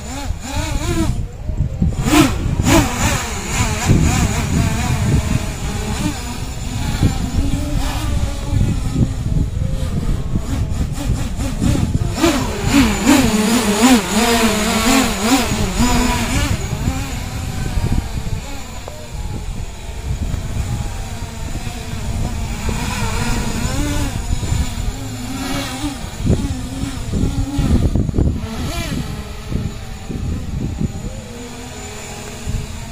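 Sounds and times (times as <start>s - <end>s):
drone propellers whining: 0.0s - 32.9s.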